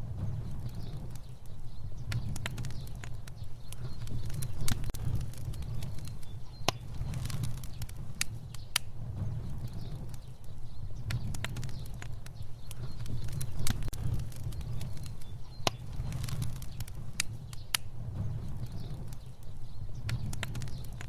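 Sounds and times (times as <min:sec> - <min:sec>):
fire crackling and rumbling: 0:00.0 - 0:21.0.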